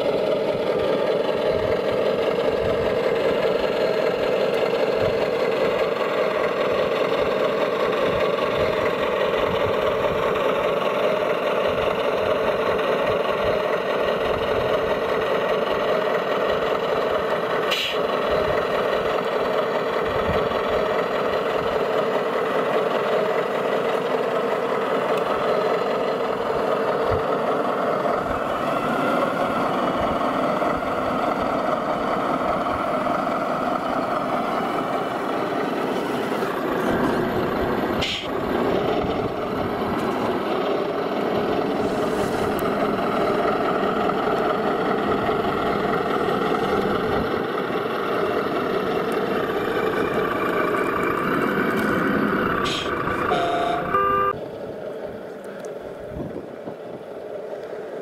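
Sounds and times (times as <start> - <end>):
model truck engine drone: 0.0 - 58.0.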